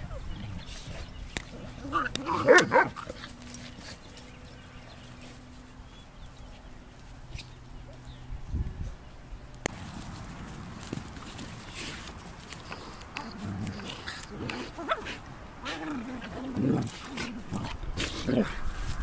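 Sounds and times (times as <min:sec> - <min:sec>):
distant dogs playing on grass: 0:00.0 - 0:19.0.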